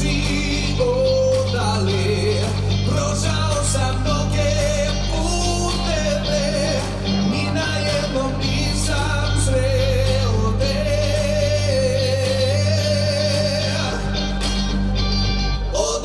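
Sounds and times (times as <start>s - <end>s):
steady bass: 0.0s - 16.0s.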